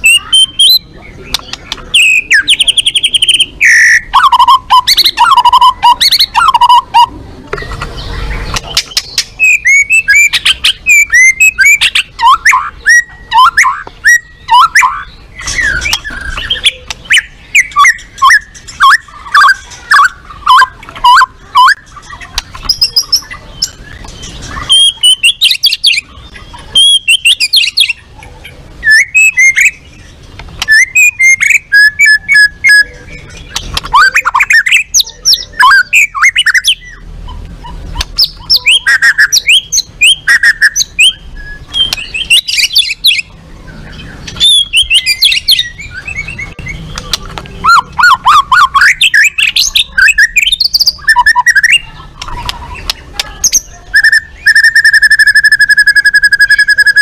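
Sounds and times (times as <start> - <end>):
bird singing sharp trills: 0.0 - 57.0.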